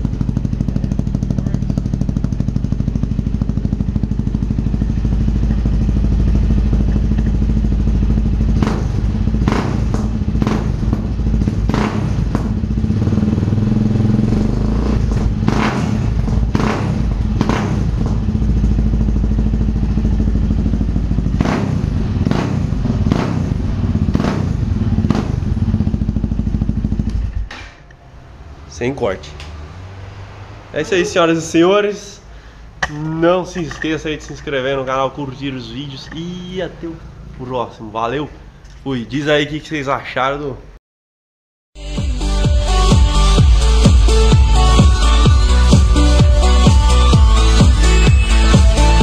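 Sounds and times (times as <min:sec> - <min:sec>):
motorcycle engine idling and revving: 0:00.0 - 0:38.8, 0:41.8 - 0:49.0.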